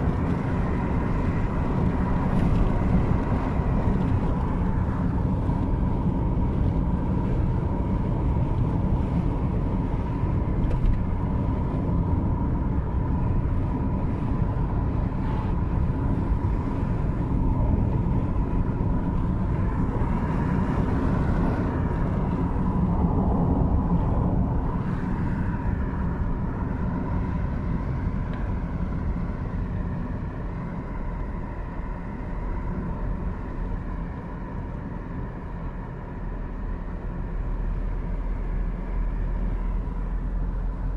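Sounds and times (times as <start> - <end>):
car tyres and engine rumble: 0.0 - 40.9.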